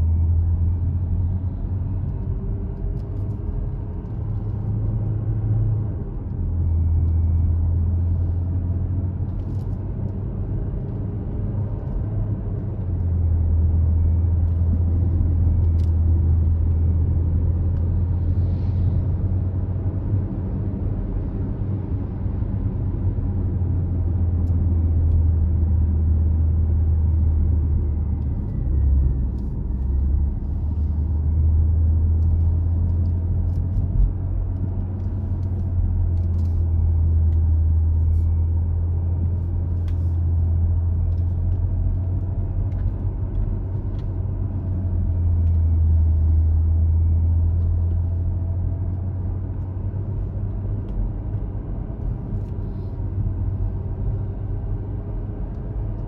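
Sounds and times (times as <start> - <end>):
car engine and tyres droning: 0.0 - 56.0.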